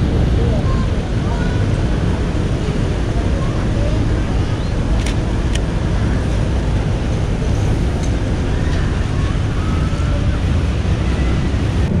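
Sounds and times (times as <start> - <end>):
city traffic: 0.0 - 12.0
wind on microphone: 0.0 - 12.0.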